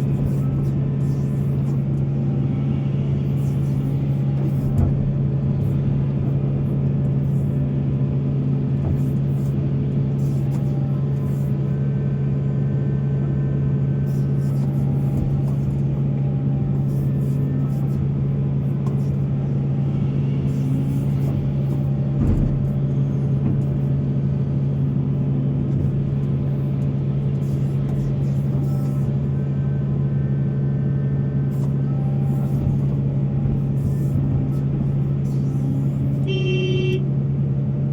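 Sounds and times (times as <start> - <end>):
diesel earthmoving machine engine drone: 0.0 - 37.9.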